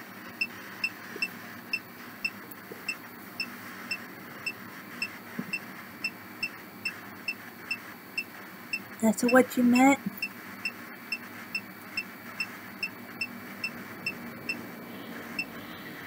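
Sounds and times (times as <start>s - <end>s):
steady hiss from phone: 0.0s - 16.0s.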